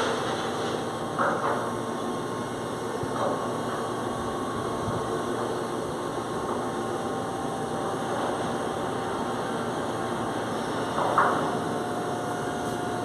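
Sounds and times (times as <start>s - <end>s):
crane motor humming: 0.0s - 13.0s.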